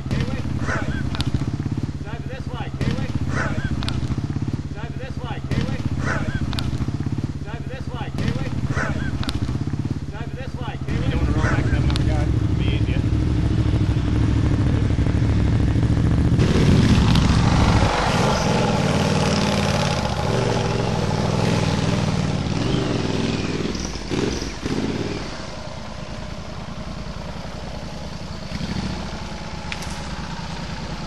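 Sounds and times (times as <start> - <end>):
motorcycle engine revving hard: 0.0 - 31.0.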